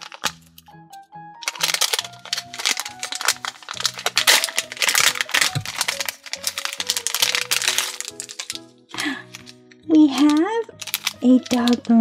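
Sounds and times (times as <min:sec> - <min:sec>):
plastic wrapper crinkling and tearing: 0:00.0 - 0:00.8, 0:01.4 - 0:12.0
background music: 0:00.0 - 0:12.0.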